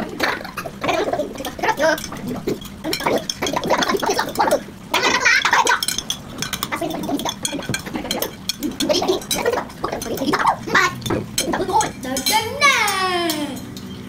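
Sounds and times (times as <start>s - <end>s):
spoons scraping on plates: 0.0s - 14.0s.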